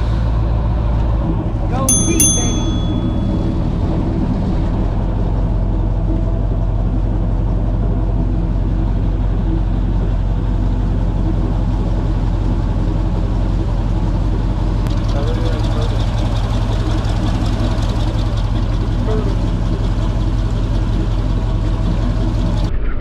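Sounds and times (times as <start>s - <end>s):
airboat engine droning: 1.7s - 21.3s.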